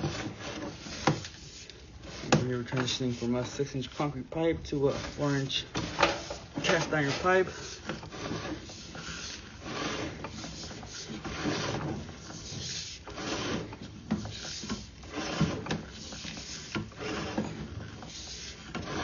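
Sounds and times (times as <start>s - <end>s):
cable rubbing and scraping: 0.0s - 19.0s.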